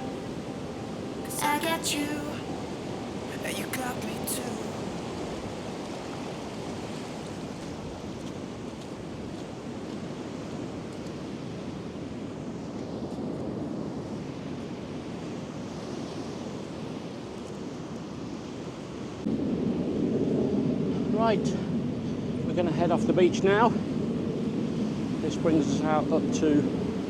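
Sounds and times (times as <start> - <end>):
waves washing onto beach: 0.0 - 27.0.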